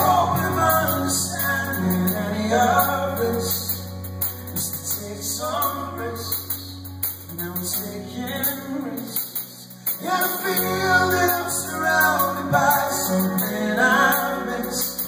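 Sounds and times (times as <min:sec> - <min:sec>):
bass line: 0:00.0 - 0:15.0
pop-rock band playing: 0:00.0 - 0:15.0.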